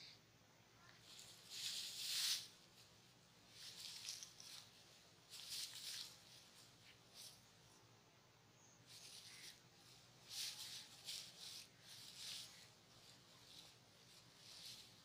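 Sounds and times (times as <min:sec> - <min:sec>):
straw rustling and crackling: 0:01.0 - 0:07.4, 0:08.9 - 0:15.0.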